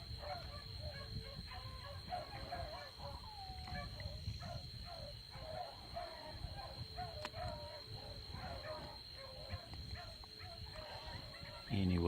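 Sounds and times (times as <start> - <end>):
distant dogs baying: 0.0 - 12.0.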